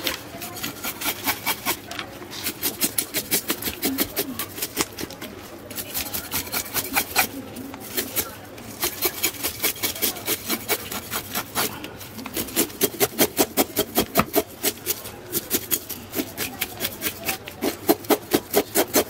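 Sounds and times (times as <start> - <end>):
knife scraping fish scales: 0.0 - 19.0.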